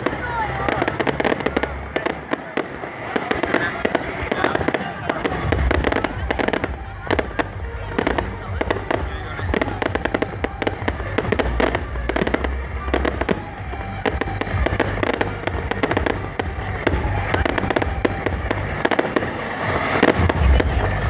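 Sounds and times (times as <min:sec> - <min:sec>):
firecrackers popping: 0:00.0 - 0:21.0
music with heavy bass: 0:00.0 - 0:21.0.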